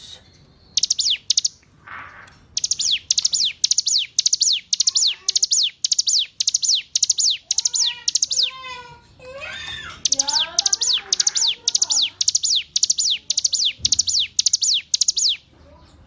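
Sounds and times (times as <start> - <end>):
lower chattering bird notes: 0.0 - 8.6, 9.8 - 16.0
bird singing rapid high chirps: 0.0 - 16.0.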